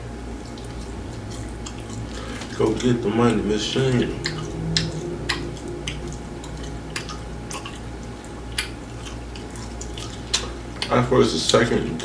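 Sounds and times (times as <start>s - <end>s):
wet chewing mouth clicks: 0.3s - 11.7s.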